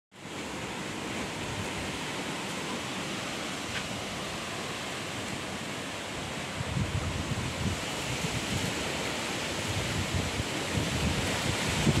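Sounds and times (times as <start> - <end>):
strong wind through leaves: 0.1 - 12.0.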